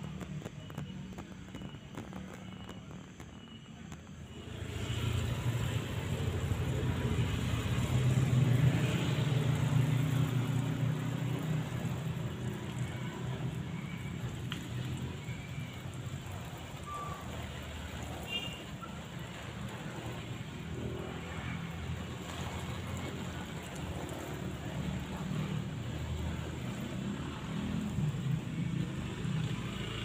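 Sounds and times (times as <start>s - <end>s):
water splashing onto leaves: 4.4s - 30.0s.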